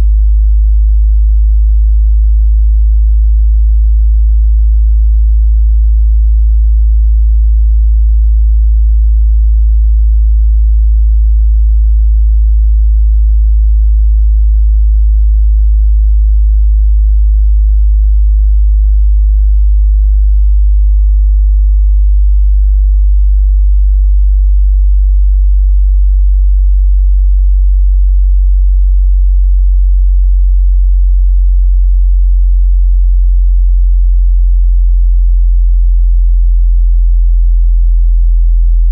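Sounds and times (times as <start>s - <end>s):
sub-bass sine tone: 0.0s - 38.9s.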